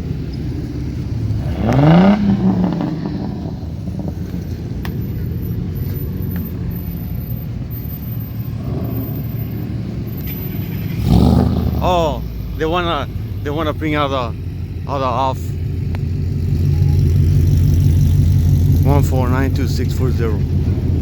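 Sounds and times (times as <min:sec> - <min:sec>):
car engine revving: 0:00.0 - 0:21.0
car engines rumbling: 0:00.0 - 0:21.0.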